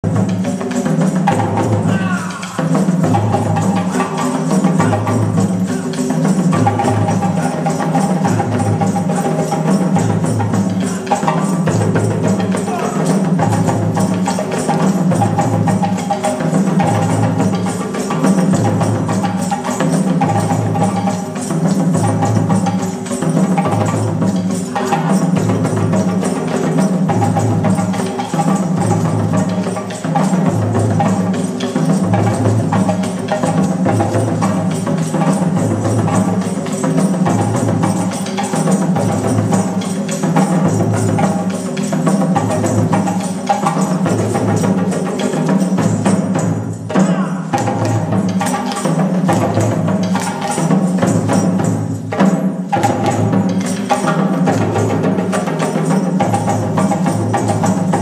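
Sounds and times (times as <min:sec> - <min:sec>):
drum ensemble playing steady rhythm: 0:00.0 - 0:58.0.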